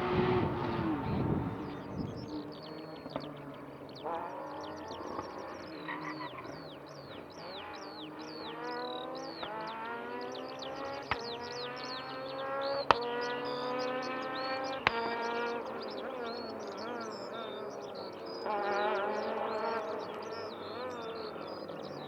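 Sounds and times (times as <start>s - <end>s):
birdsong chirps: 0.0s - 22.0s
rally car engine approaching: 0.0s - 22.0s.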